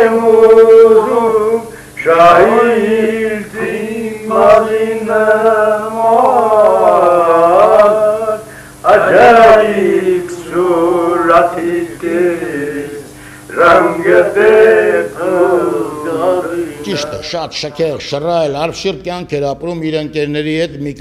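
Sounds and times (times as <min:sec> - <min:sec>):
man singing slow melody: 0:00.0 - 0:17.2.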